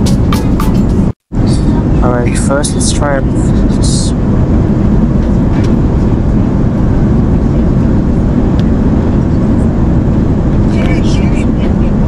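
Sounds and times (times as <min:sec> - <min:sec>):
airplane cabin noise: 0:00.0 - 0:12.0.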